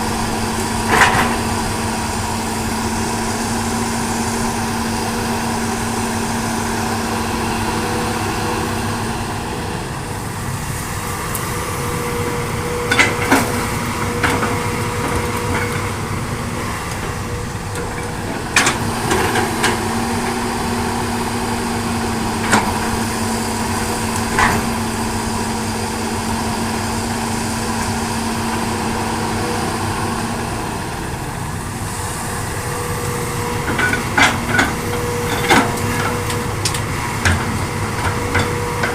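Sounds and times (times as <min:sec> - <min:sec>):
excavator running: 0:00.0 - 0:38.9.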